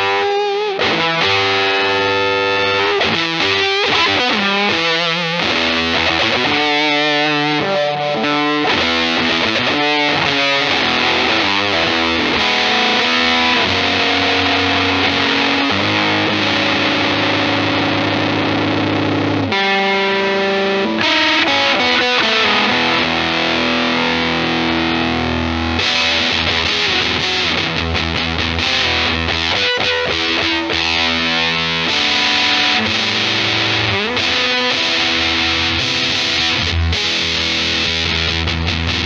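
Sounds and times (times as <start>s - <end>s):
fuzz distorted electric guitar: 0.0s - 39.0s.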